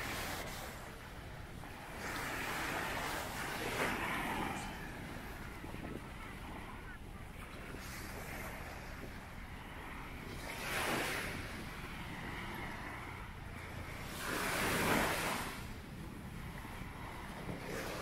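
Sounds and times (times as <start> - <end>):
sea waves breaking on shore: 0.0 - 18.0
wind rumble on microphone: 0.0 - 18.0.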